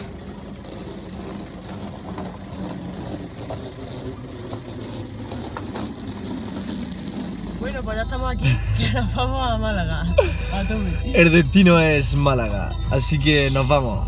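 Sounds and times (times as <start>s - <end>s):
suitcase wheels rumbling on asphalt: 0.0s - 14.0s.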